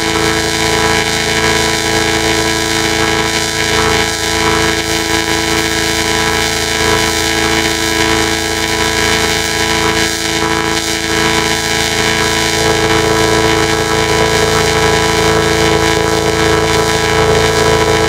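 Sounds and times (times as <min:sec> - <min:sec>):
distorted horn-like drone: 0:00.0 - 0:18.0.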